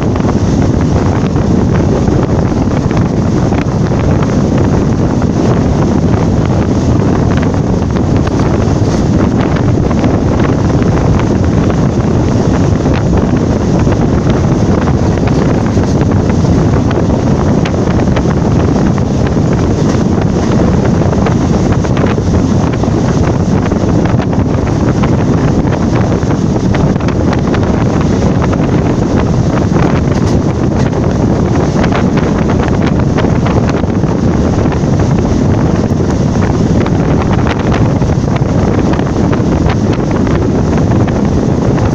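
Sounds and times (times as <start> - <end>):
train running noise: 0.0 - 41.9
wind buffeting microphone: 0.0 - 41.9.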